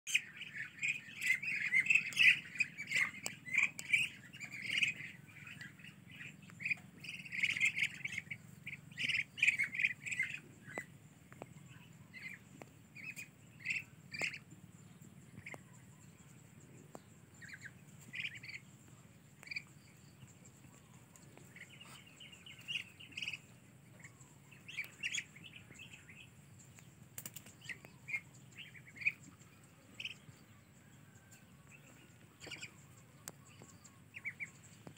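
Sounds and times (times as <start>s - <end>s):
ducklings peeping and calling: 0.1s - 34.9s.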